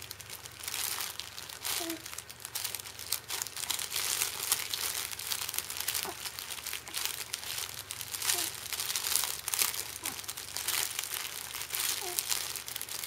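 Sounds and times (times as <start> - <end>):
fabric crinkle book crinkling: 0.0 - 13.0.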